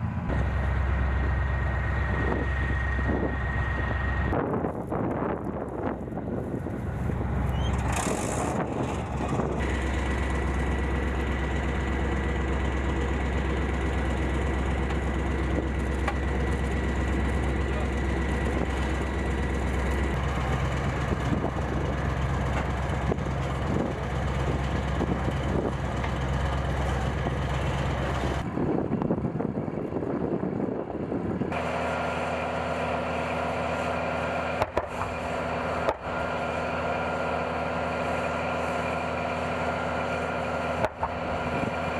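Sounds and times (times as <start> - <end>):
diesel engines humming: 0.0 - 41.9.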